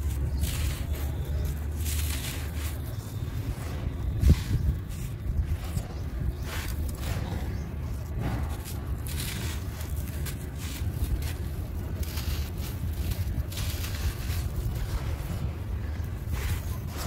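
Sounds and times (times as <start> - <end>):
hands crushing dry crumbs: 0.0 - 17.0
steady low rumble: 0.0 - 17.0.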